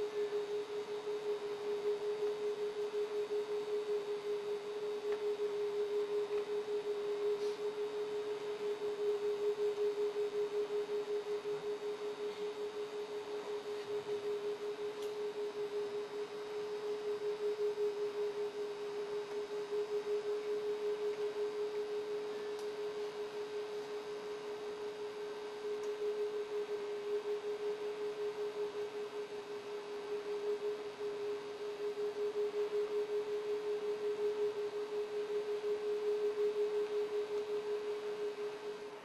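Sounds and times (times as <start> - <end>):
wavering single-pitch drone: 0.0 - 39.0.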